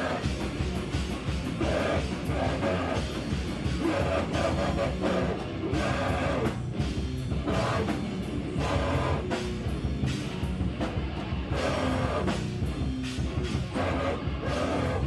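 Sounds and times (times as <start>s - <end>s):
electric guitar: 0.0s - 15.0s
pounding drum kit: 0.0s - 15.0s.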